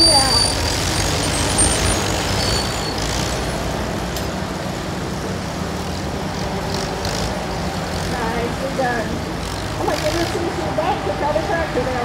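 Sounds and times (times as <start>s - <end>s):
tractor engines rumbling: 0.0s - 12.0s.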